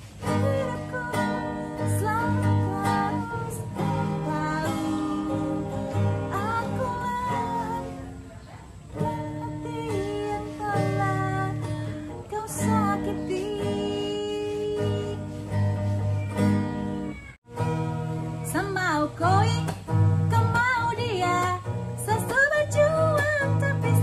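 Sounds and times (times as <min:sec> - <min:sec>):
woman singing: 0:00.0 - 0:16.7, 0:18.2 - 0:24.0
acoustic guitar strumming: 0:00.0 - 0:24.0.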